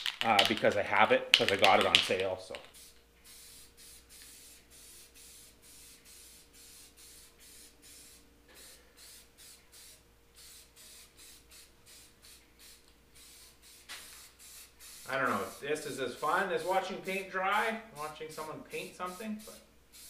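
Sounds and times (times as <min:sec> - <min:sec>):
spray can bursts: 0:00.0 - 0:17.5, 0:18.8 - 0:20.0.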